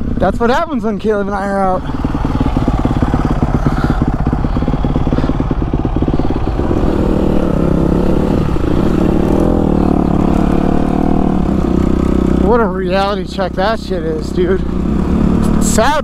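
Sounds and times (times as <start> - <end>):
dirt bike engine revving: 1.4 - 16.0.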